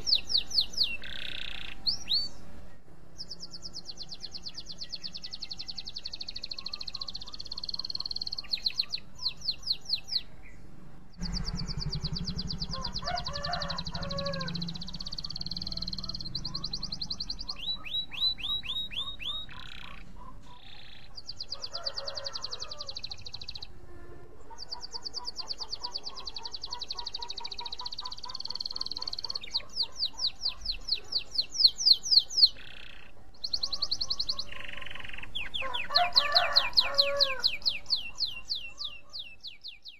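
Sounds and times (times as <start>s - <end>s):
canary singing trills: 0.0s - 23.8s, 24.4s - 39.9s.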